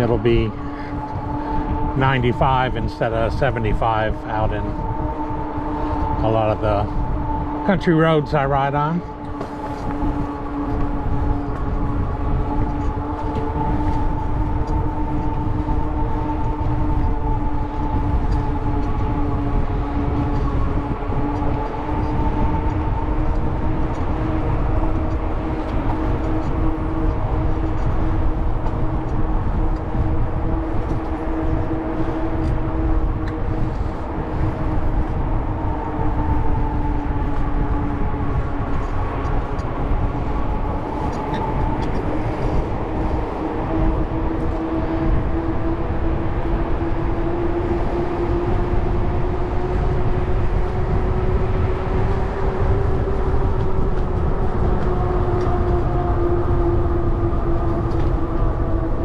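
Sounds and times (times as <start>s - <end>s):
steady droning hum: 0.0s - 59.0s
wind rushing over microphone: 0.0s - 59.0s.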